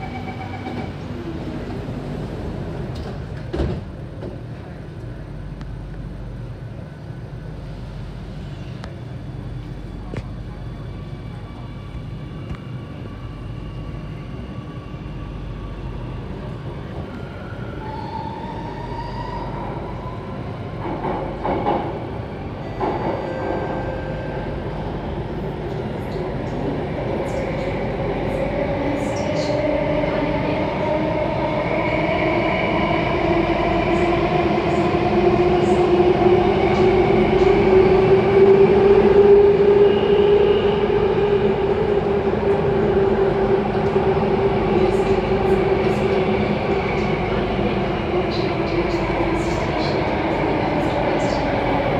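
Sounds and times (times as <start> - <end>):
train wheels rumbling on track: 0.0 - 51.9.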